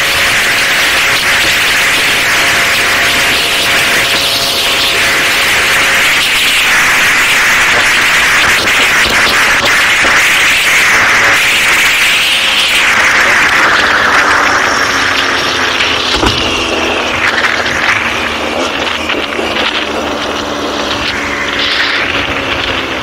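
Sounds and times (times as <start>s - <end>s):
motorcycle engine at speed: 0.0s - 23.0s
wind noise: 0.0s - 23.0s.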